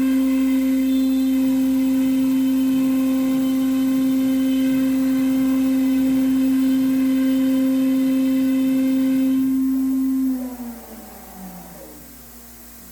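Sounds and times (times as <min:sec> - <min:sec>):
router humming: 0:00.0 - 0:12.9.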